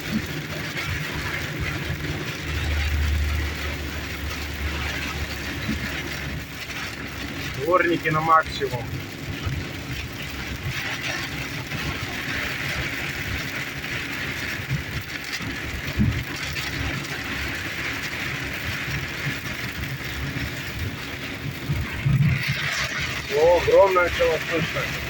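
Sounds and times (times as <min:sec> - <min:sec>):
heavy rain on car roof: 0:00.0 - 0:25.0
road noise: 0:00.0 - 0:25.0
windshield wipers running: 0:00.1 - 0:25.0.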